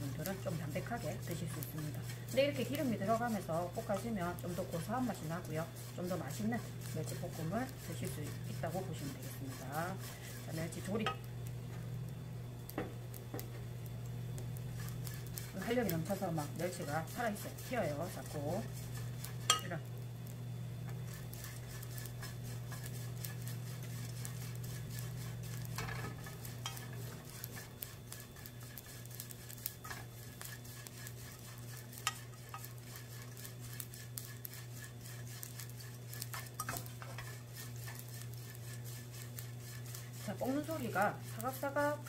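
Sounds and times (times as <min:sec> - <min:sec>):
wooden spatula scraping pan: 0:00.0 - 0:11.2, 0:14.6 - 0:19.9, 0:20.8 - 0:42.0
anchovies frying in hot oil: 0:00.0 - 0:42.0
steady low hum: 0:00.0 - 0:42.0.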